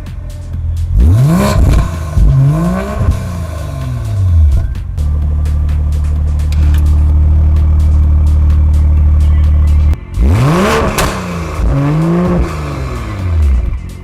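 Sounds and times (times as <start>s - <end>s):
car engine revving: 0.0s - 14.0s
steady low drone: 0.0s - 14.0s.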